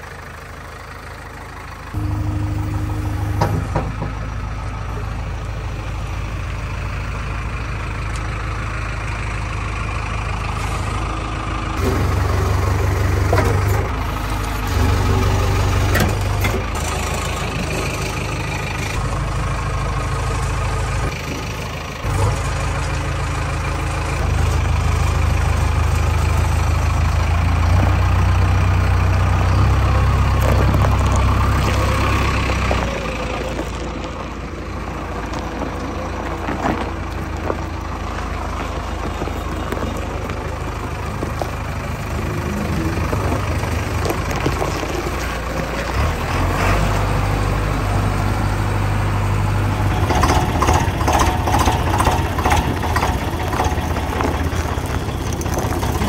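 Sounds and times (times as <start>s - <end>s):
diesel engine idling: 0.0s - 56.0s
tractor diesel knocking clatter: 0.0s - 56.0s.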